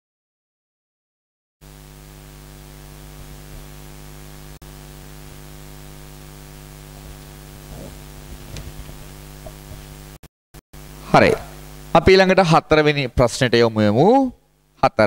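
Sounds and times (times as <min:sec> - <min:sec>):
electrical mains hum: 0:01.6 - 0:10.2, 0:10.8 - 0:15.0.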